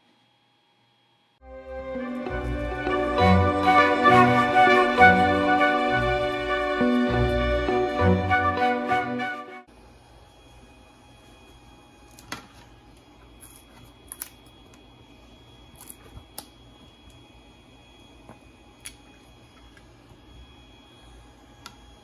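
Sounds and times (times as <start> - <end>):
fans humming with thin whine: 0.0 - 22.0.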